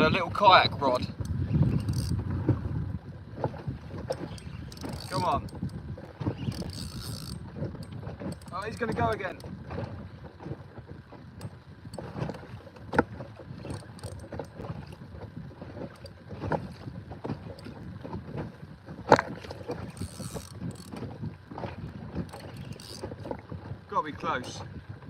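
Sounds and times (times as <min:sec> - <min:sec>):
water slapping kayak hull: 0:00.0 - 0:25.0
wind on microphone: 0:00.0 - 0:25.0.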